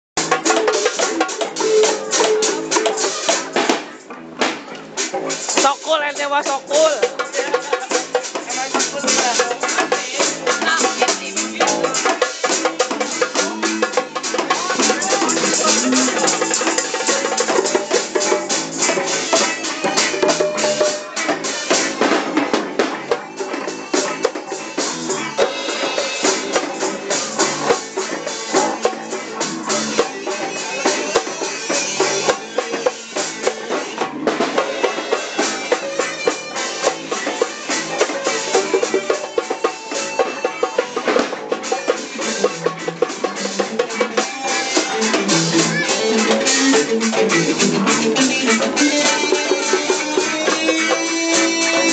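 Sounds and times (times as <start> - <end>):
reggae band playing: 0.2 - 51.9.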